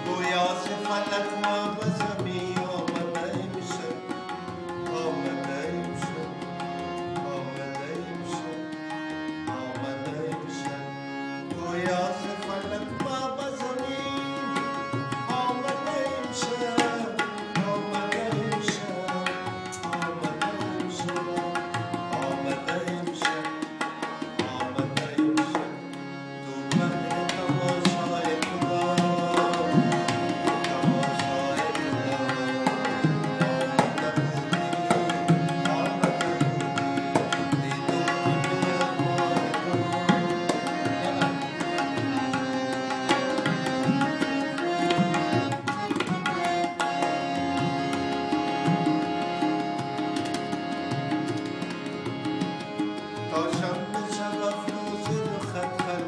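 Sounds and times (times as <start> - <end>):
harmonium melody: 0.0 - 56.0
tabla rhythm: 0.0 - 56.0.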